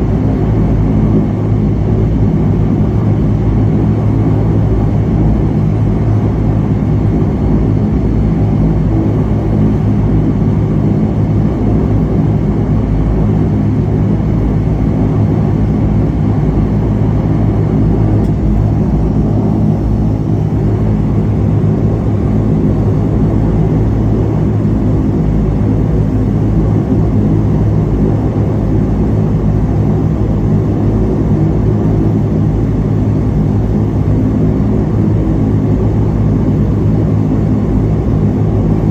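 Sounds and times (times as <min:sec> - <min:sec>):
turboprop engine idling: 0:00.0 - 0:38.9.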